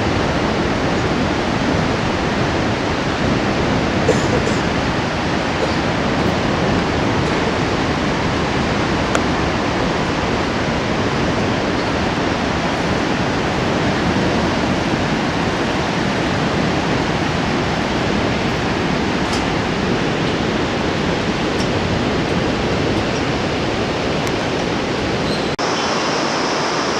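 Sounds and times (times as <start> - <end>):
river rapids rushing: 0.0 - 26.9.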